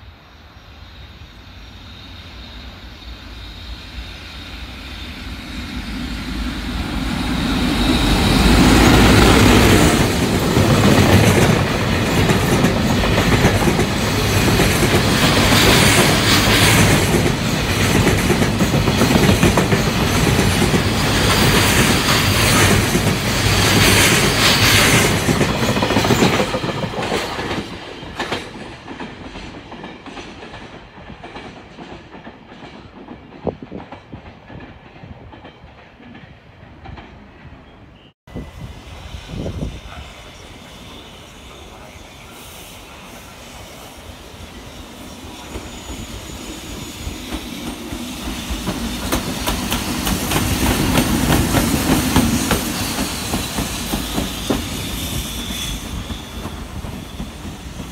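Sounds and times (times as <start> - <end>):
freight train passing: 0.0 - 57.9.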